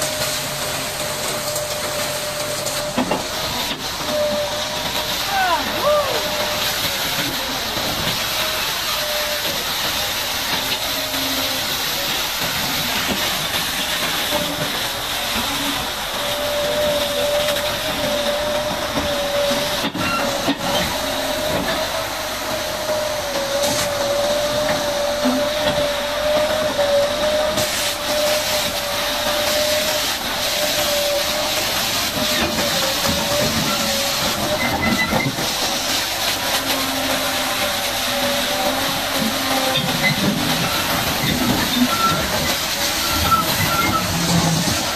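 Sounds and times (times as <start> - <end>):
pressure water jet hissing: 0.0 - 44.9.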